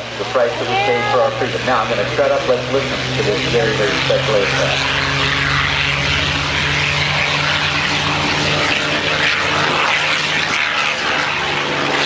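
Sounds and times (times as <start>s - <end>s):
propeller plane engine overhead: 0.0s - 12.0s.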